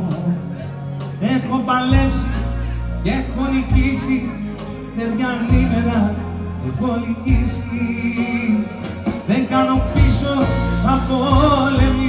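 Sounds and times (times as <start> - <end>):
deep bass notes: 0.0 - 12.0
keyboard accompaniment: 0.0 - 12.0
man singing: 0.0 - 12.0.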